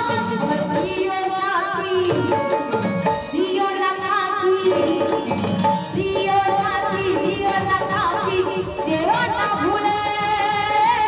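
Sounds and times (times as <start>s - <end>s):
steady drum rhythm: 0.0s - 11.0s.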